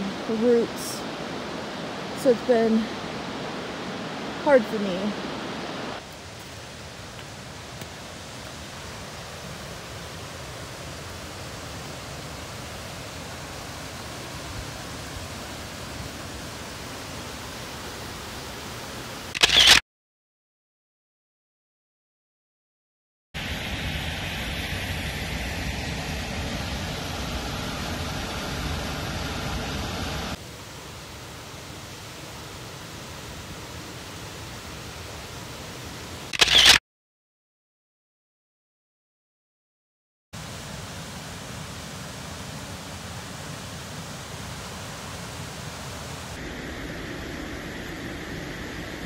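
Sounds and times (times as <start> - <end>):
waterfall and rapids rushing: 0.0 - 19.4, 23.4 - 36.3, 40.4 - 49.0.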